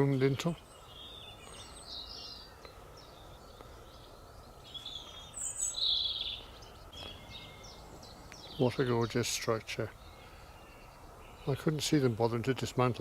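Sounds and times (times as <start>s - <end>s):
low outdoor background noise: 0.0s - 13.0s
wild birds chirping: 0.0s - 13.0s.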